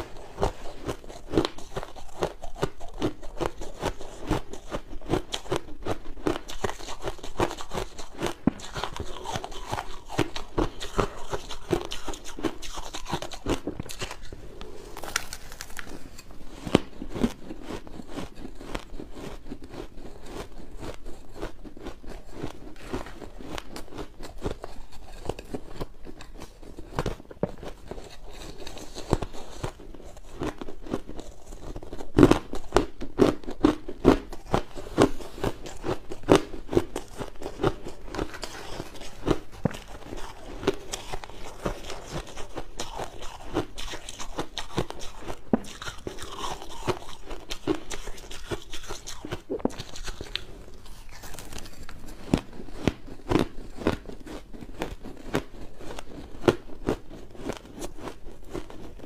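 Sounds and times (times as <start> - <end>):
chewing crushed ice: 0.0 - 59.0.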